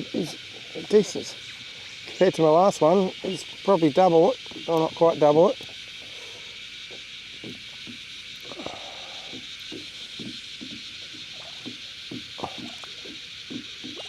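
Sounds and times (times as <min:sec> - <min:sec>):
cicada chorus buzzing: 0:00.0 - 0:14.0
soft taps and drips: 0:01.6 - 0:06.2, 0:06.8 - 0:14.0.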